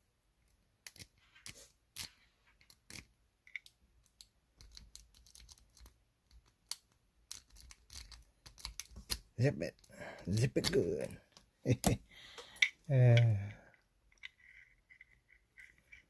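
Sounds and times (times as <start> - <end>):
lock picking clicks and scrapes: 0.8 - 11.5, 13.7 - 16.0.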